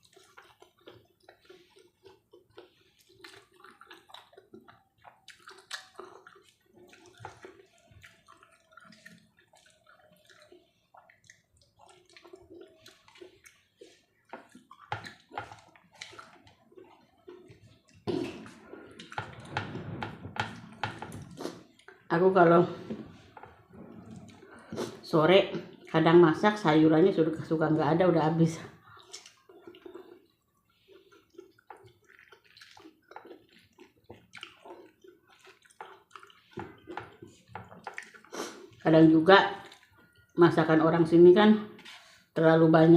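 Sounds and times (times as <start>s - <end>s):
chewing with mouth smacks: 0.0s - 22.2s, 22.8s - 26.7s, 28.5s - 40.4s.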